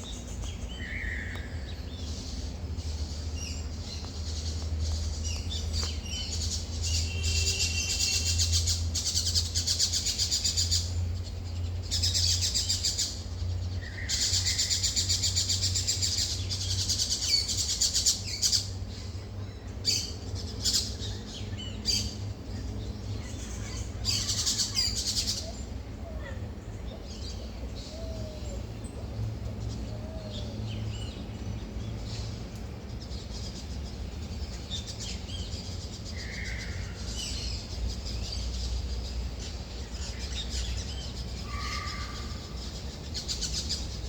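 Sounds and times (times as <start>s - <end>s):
small birds trilling: 0.0s - 44.0s.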